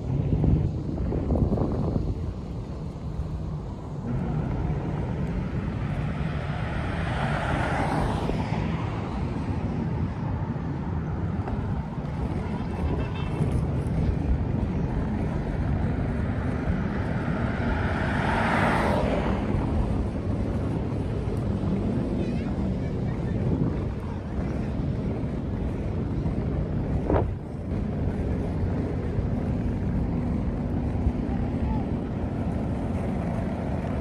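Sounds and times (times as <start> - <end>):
cars passing: 0.0 - 34.0
low rumble of traffic: 0.0 - 34.0.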